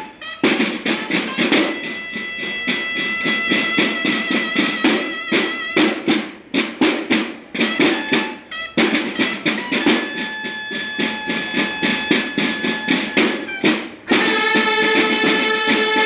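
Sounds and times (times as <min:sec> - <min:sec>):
held bugle notes: 0:00.0 - 0:06.1, 0:07.6 - 0:16.0
marching drums beating: 0:00.0 - 0:16.0.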